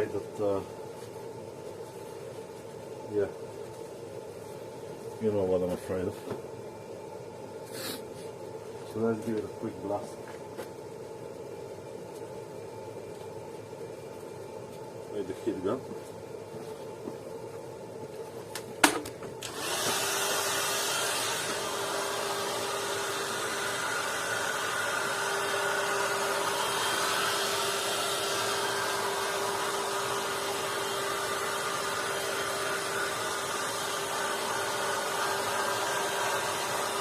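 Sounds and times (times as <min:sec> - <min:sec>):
heat gun fan running: 0:00.0 - 0:37.0.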